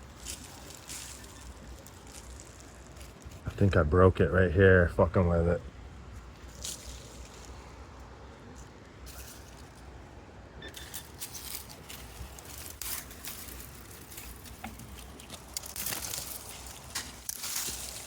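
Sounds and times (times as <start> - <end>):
digging and scraping in dirt: 0.0 - 18.0.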